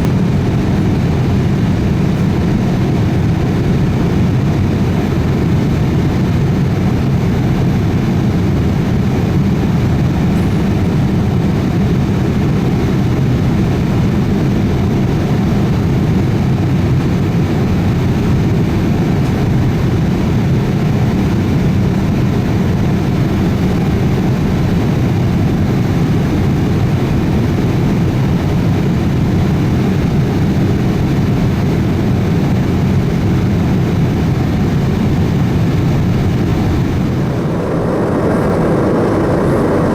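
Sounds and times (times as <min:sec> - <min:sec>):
airliner cabin engine rush: 0:00.0 - 0:39.9.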